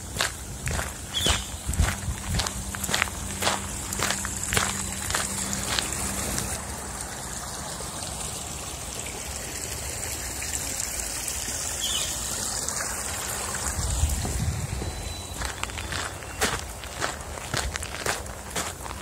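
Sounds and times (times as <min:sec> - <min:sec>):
woodland stream trickling: 0:00.0 - 0:19.0.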